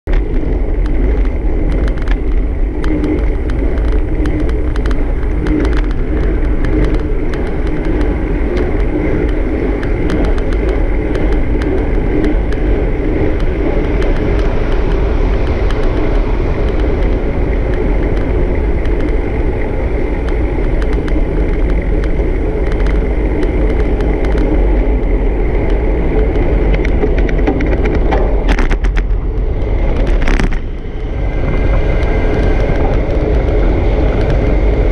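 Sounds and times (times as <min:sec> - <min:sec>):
rolling road noise: 0:00.0 - 0:34.9
ticks and knocks from road: 0:00.0 - 0:34.9
wind on microphone: 0:00.0 - 0:34.9.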